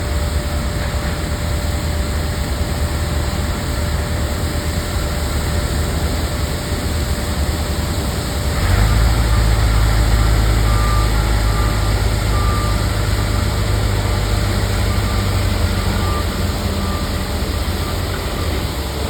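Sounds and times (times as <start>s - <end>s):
aircraft engine whine: 0.0s - 19.0s
aircraft engines rumbling: 0.0s - 19.0s.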